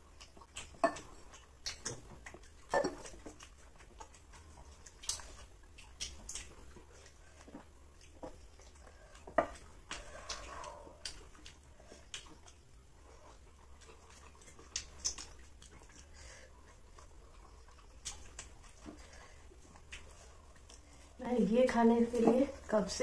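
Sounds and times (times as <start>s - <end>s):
person chewing: 0.0s - 21.2s
soft crackles and clicks: 0.0s - 22.9s.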